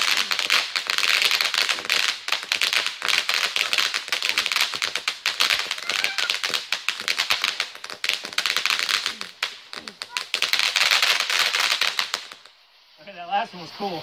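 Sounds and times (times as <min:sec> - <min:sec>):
firework crackling: 0:00.0 - 0:14.0.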